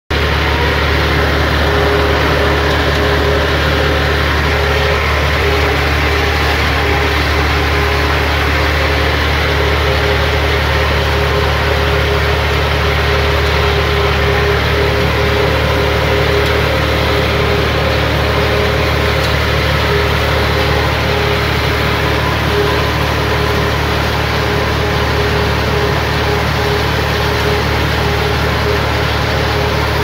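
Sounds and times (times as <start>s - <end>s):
tractor diesel engine running: 0.1s - 30.0s.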